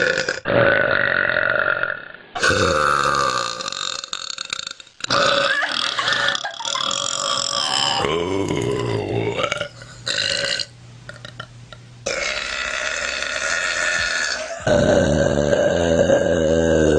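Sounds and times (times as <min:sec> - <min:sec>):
woman burping: 0:00.0 - 0:11.5, 0:12.1 - 0:16.9.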